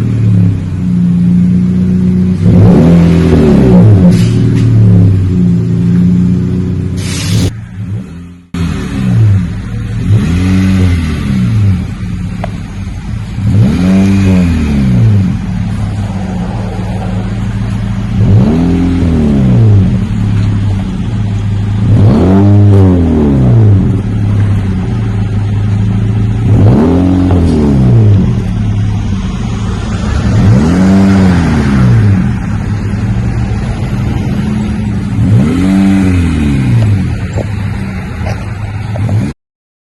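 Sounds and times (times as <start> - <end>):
car exhaust revving: 0.0 - 39.3.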